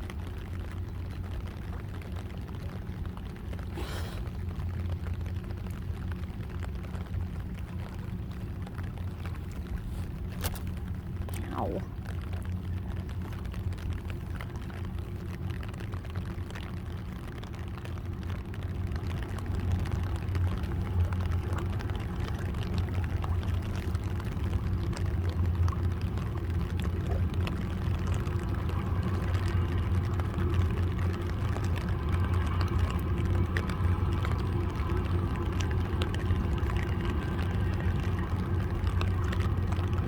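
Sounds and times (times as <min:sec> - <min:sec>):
boat diesel engines droning: 0:00.0 - 0:40.0.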